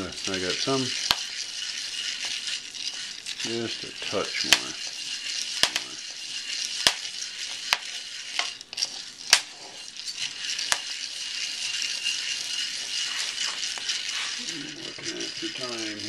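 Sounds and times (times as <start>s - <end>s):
coffee beans rattling in pan: 0.0s - 16.0s.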